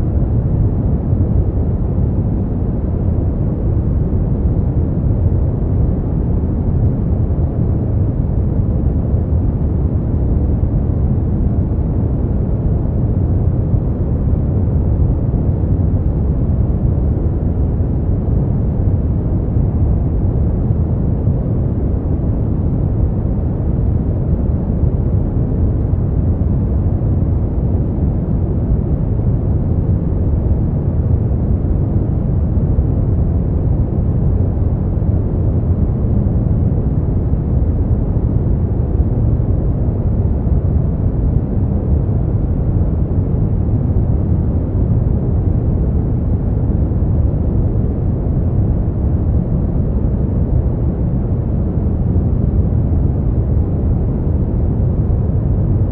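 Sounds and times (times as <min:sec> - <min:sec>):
deep rushing noise rumble: 0:00.0 - 0:55.9.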